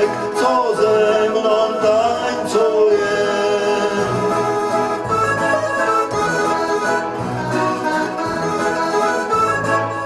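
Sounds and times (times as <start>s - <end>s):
electronic keyboard folk melody: 0.0s - 10.0s.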